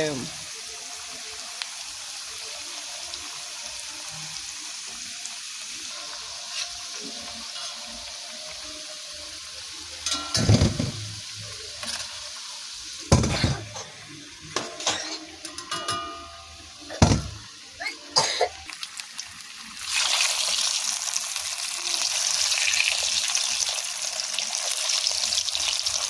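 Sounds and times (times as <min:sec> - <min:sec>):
potatoes sizzling: 0:00.0 - 0:26.0.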